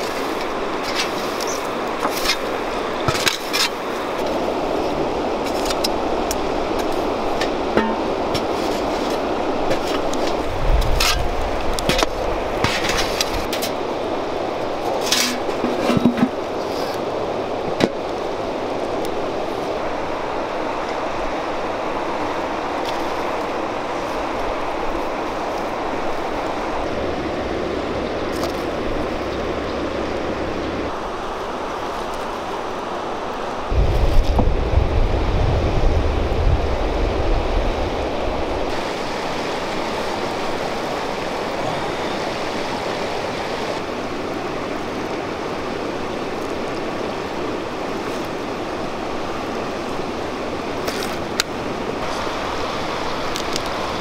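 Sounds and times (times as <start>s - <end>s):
rushing outdoor background noise: 0.0s - 54.0s.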